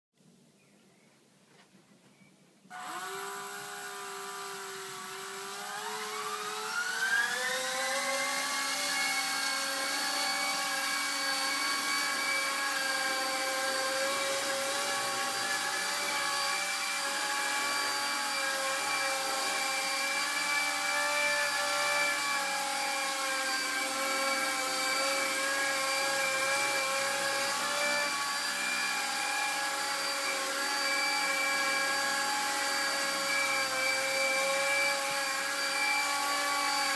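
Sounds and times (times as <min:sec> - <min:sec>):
toy helicopter rotors whining: 0:02.7 - 0:36.9.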